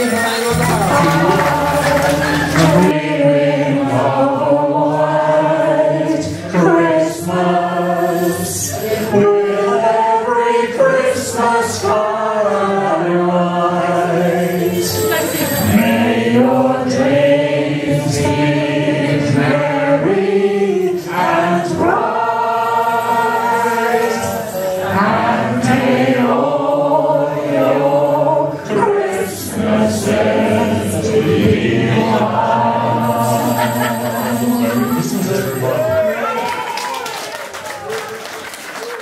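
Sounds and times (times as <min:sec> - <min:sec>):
music: 0:00.0 - 0:36.0
man and woman singing duet: 0:00.0 - 0:36.7.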